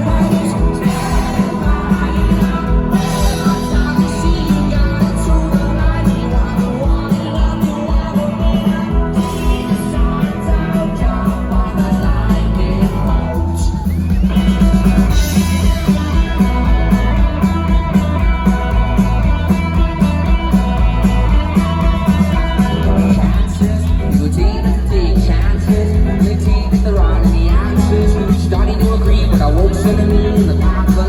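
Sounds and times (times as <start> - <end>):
singing: 0.0 - 16.5, 21.8 - 31.0
guitar: 0.0 - 31.0
steady drum beat: 0.0 - 31.0.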